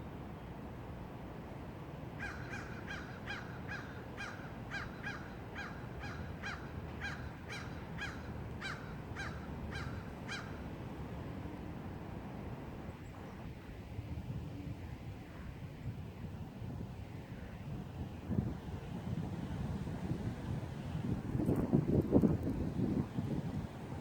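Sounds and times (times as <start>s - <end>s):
wind blowing through trees: 0.0s - 24.0s.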